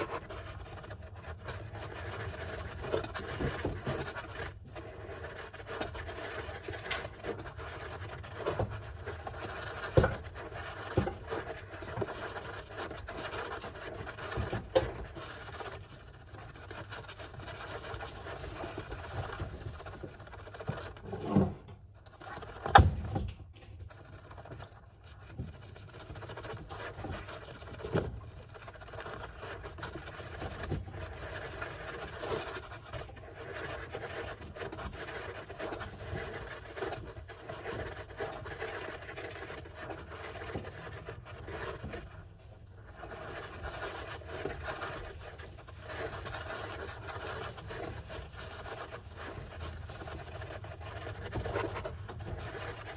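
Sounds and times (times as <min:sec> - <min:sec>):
hamster digging in sand: 0:00.0 - 0:23.0, 0:23.8 - 0:52.9.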